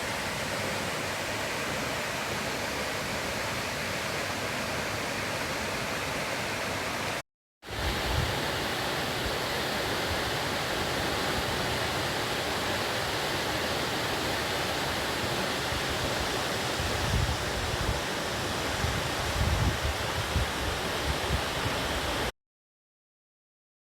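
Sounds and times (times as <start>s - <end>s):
waterfall rushing: 0.0s - 22.3s.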